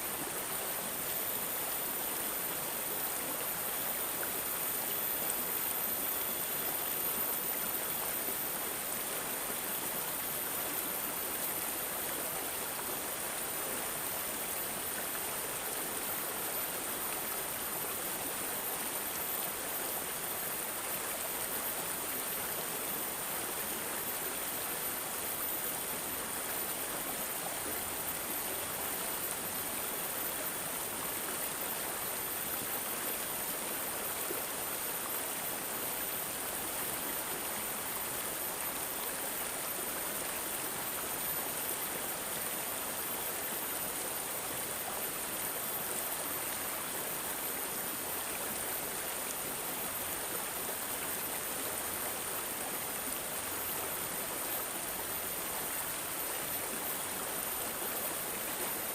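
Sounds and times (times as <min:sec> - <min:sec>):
stream water babbling: 0:00.0 - 0:58.9.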